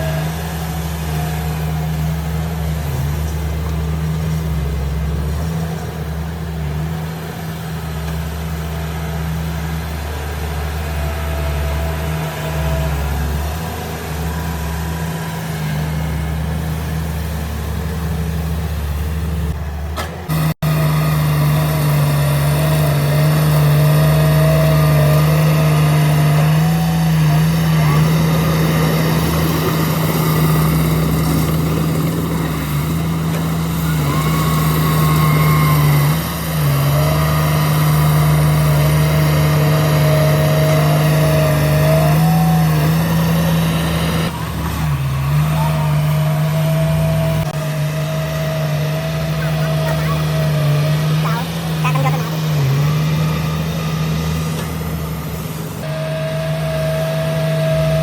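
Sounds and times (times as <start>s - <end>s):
heavy diesel engine under load: 0.0s - 58.0s.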